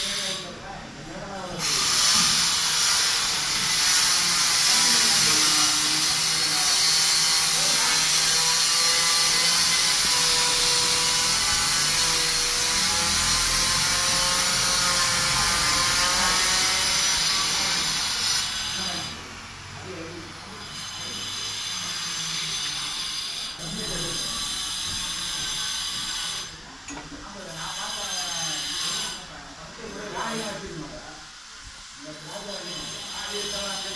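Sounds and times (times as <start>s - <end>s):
power tool running: 1.5s - 33.9s.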